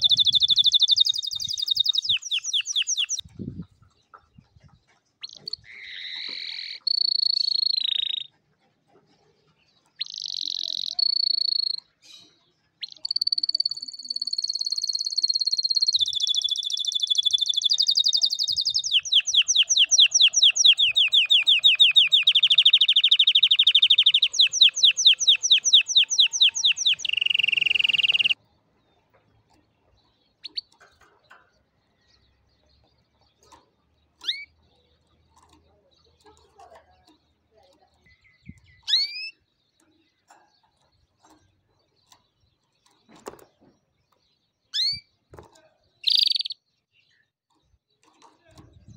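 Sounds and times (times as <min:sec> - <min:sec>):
canary singing: 0:00.0 - 0:04.4, 0:05.2 - 0:08.4, 0:09.5 - 0:48.9.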